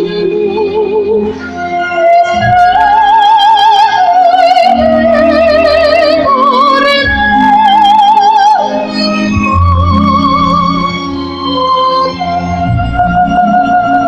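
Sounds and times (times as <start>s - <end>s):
instrumental accompaniment: 0.0s - 14.0s
soprano singing operatic piece: 0.0s - 14.0s.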